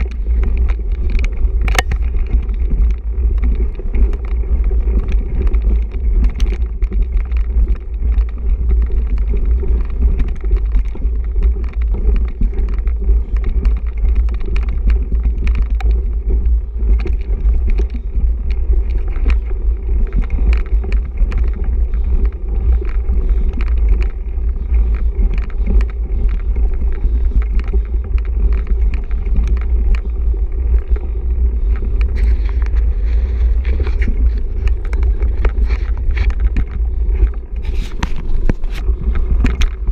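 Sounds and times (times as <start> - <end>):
bike rattling over roots: 0.0 - 39.9
mountain bike rumble: 0.0 - 39.9.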